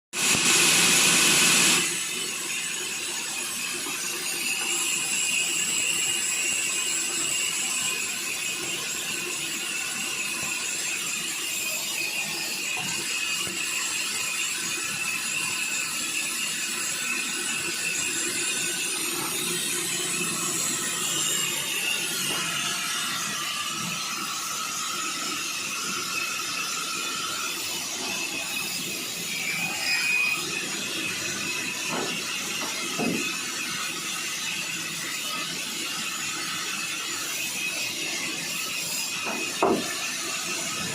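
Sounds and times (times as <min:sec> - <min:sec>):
sawmill saw whining: 0:00.2 - 0:40.9.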